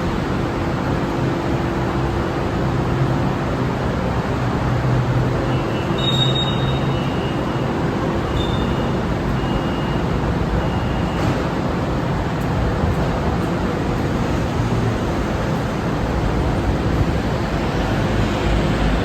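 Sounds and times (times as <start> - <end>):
monorail car rumble and hum: 0.0 - 19.0.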